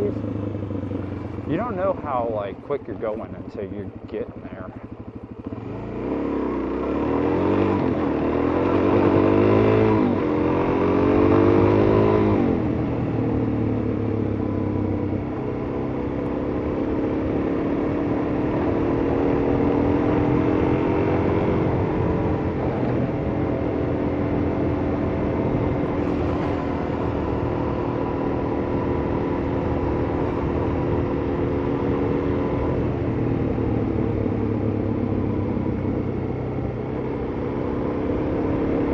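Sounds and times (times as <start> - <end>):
motorcycle engine with gear changes: 0.0 - 38.9.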